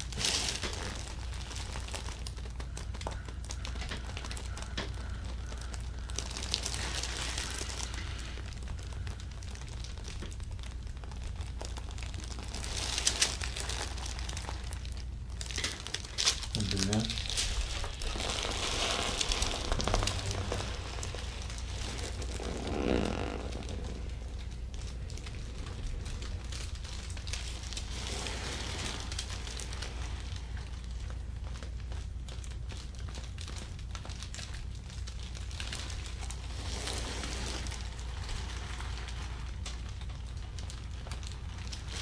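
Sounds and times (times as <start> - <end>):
rustling of clothing: 0.0 - 42.0
steady low hum: 0.0 - 42.0.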